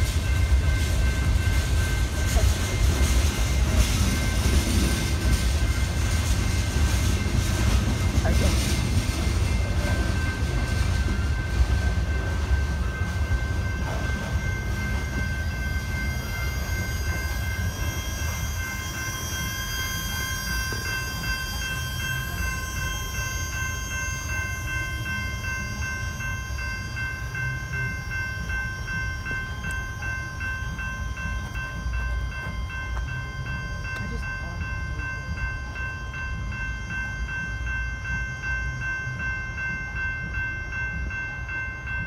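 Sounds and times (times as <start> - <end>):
crossing warning bell ringing: 0.0 - 42.0
freight train rumbling past: 0.0 - 42.0.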